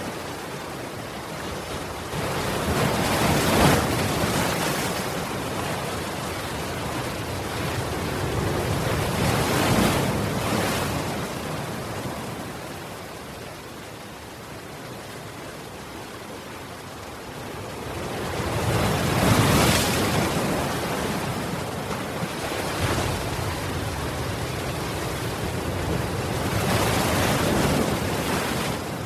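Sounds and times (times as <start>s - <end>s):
ocean surf against a seawall: 0.0s - 29.0s.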